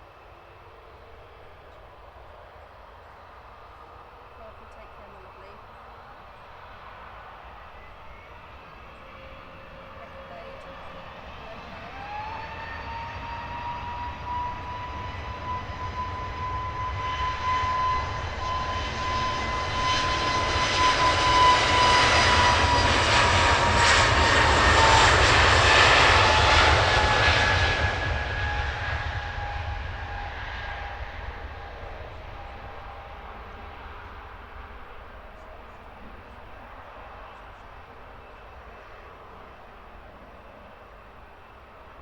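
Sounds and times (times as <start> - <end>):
jet airliner passing by: 0.0 - 42.0.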